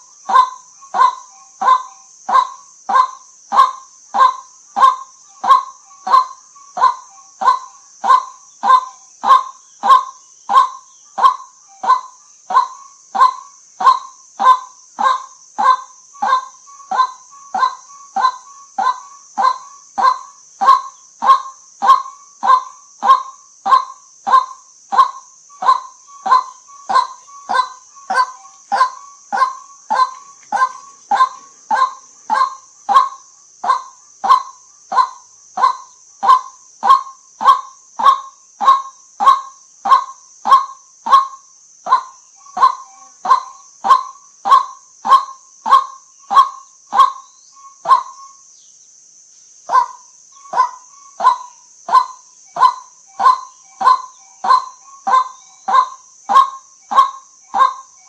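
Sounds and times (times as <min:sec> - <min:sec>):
waterhen kwak calls: 0:00.3 - 0:48.3, 0:49.7 - 0:58.0.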